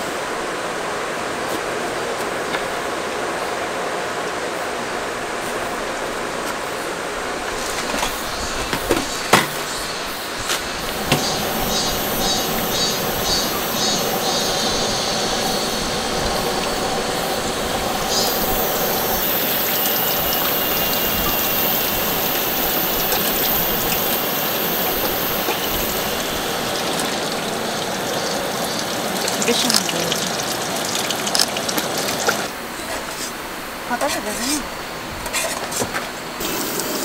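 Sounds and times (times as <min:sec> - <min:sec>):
heavy rain hissing on a tarp: 0:00.0 - 0:35.1, 0:36.2 - 0:37.0.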